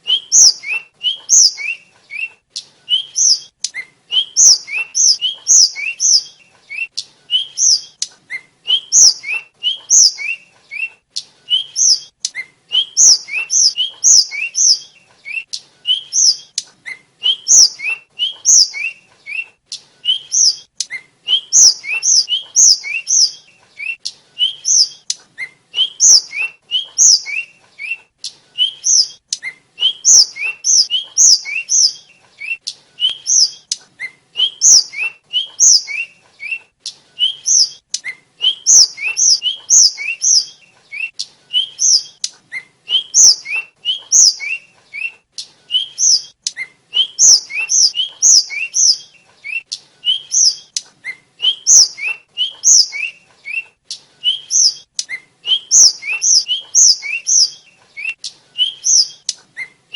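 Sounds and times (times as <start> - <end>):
flycatcher singing chirping phrases: 0.0 - 2.3, 2.9 - 8.1, 8.7 - 16.6, 17.2 - 19.4, 20.1 - 25.2, 25.8 - 27.5, 28.6 - 33.8, 34.4 - 36.1, 37.2 - 42.2, 42.9 - 44.7, 45.8 - 46.3, 47.0 - 50.8, 51.4 - 53.2, 54.3 - 59.3.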